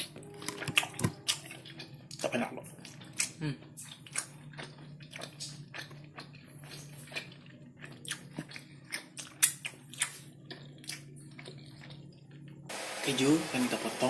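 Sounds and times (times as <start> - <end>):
wet chewing smacks and clicks: 0.4 - 12.4.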